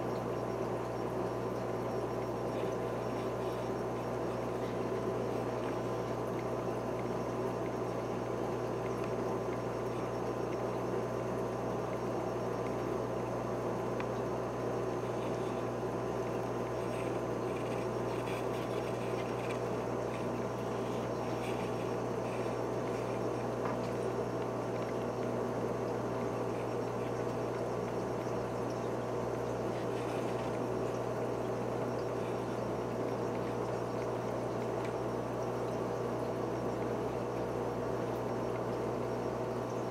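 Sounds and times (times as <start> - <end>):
aquarium filter humming: 0.0 - 39.9
faint ticks: 0.0 - 39.9.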